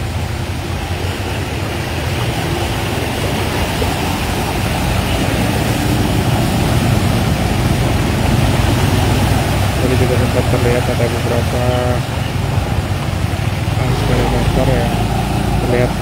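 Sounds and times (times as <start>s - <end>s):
engine noise: 0.0s - 16.0s
tyres splashing through water: 0.0s - 16.0s.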